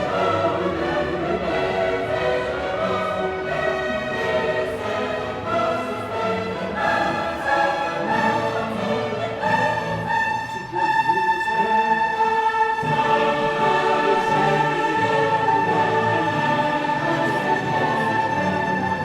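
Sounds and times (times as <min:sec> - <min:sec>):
orchestral music with choir: 0:00.0 - 0:19.0.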